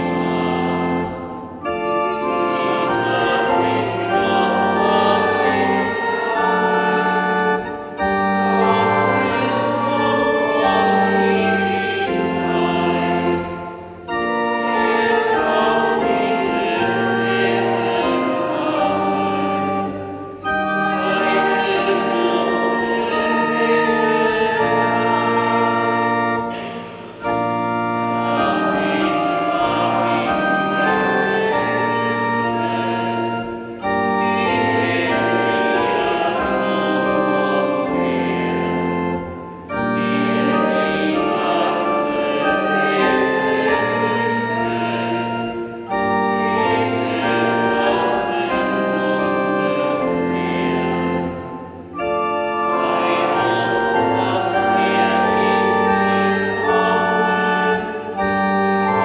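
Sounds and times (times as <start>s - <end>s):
organ playing a hymn: 0.0s - 59.0s
people singing: 0.0s - 59.0s.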